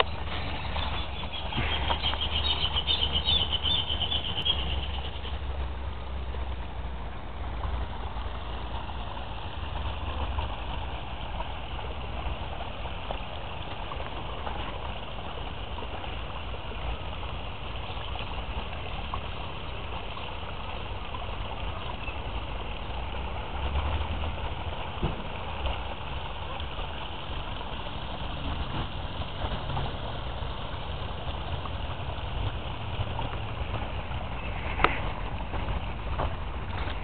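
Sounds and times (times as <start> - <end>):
creek water rushing: 0.0 - 37.0
low rumbles: 0.0 - 37.0.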